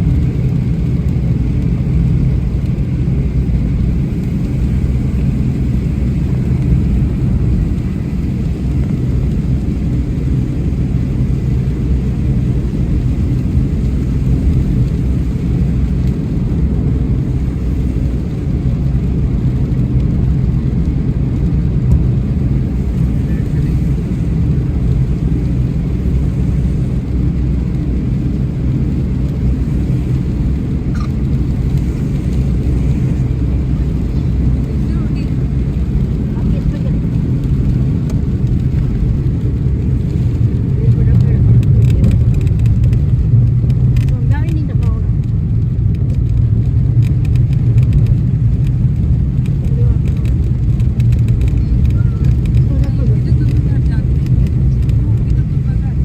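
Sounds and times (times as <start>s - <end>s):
car driving rumble: 0.0s - 56.0s.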